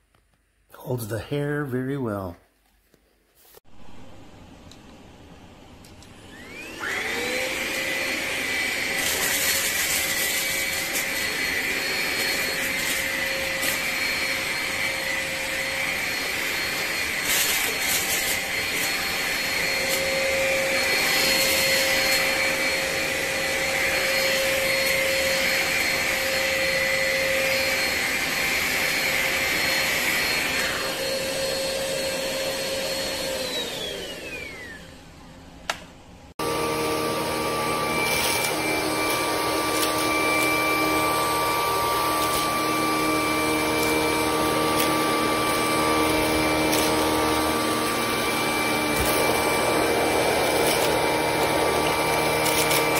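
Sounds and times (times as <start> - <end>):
vacuum cleaner motor whining: 5.8 - 35.5, 36.4 - 52.9.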